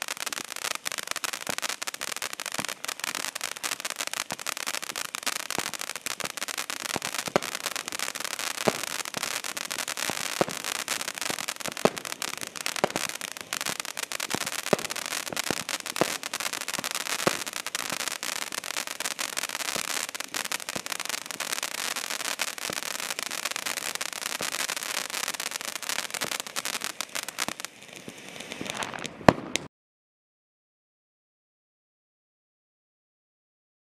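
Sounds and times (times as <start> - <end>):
firework fountain crackling spray: 0.0 - 29.7
firework pops: 2.3 - 29.7.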